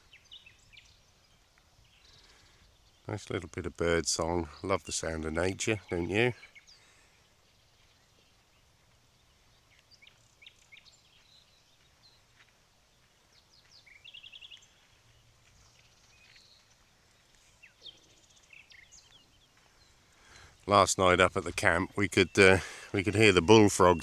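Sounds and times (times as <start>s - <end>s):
faint birdsong chirps and whistles: 0.0s - 24.0s.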